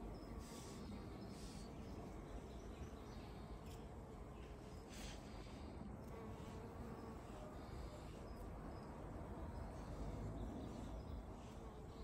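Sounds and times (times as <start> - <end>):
honeybee buzzing: 0.0 - 12.0.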